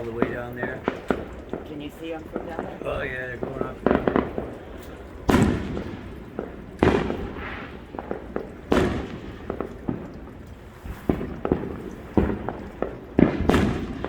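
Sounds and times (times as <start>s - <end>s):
firework booms: 0.0s - 14.0s
sharp firework pops: 0.0s - 14.0s.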